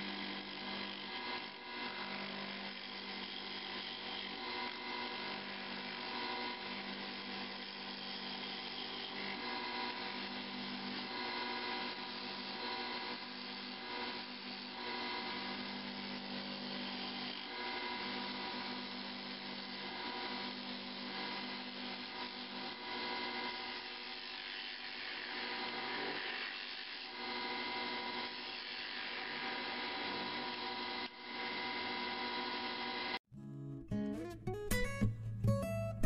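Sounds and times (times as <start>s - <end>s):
wood lathe motor hum: 0.0s - 33.2s.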